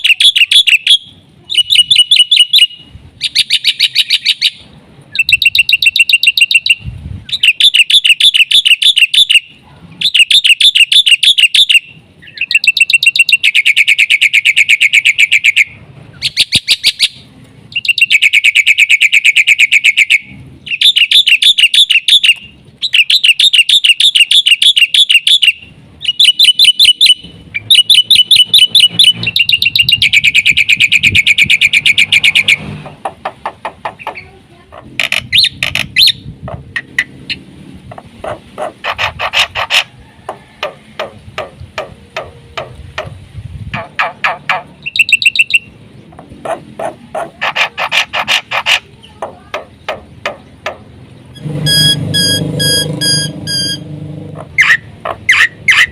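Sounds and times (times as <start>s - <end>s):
bird singing chattering trills: 0.0s - 37.4s, 43.8s - 55.9s.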